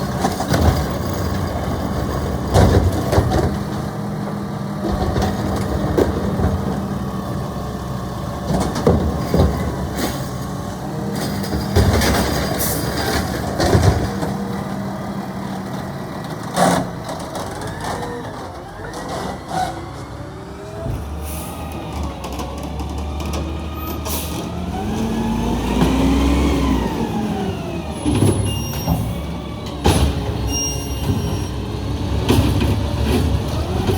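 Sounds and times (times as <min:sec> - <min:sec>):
garbage truck engine running: 0:00.0 - 0:33.9.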